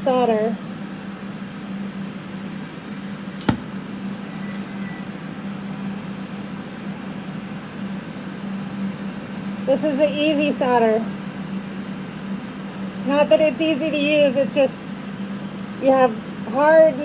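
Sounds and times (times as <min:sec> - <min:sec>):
extraction fans droning: 0:00.0 - 0:17.0.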